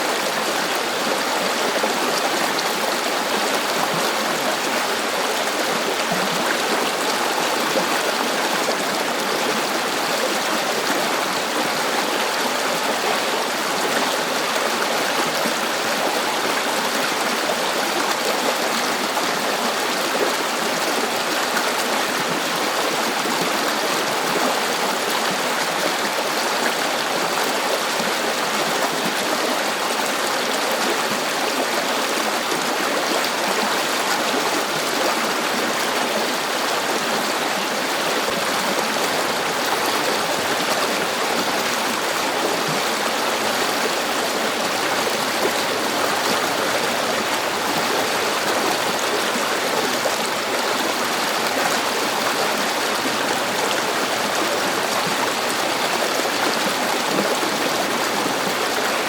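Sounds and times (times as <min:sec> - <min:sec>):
river water rushing and gurgling: 0:00.0 - 0:59.0.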